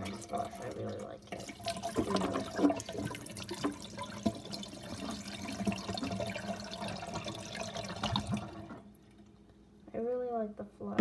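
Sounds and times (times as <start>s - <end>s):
water running through toilet: 0.0s - 9.3s.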